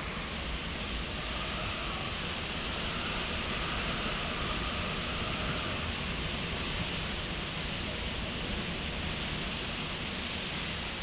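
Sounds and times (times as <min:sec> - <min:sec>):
wind and heavy rain: 0:00.0 - 0:11.0.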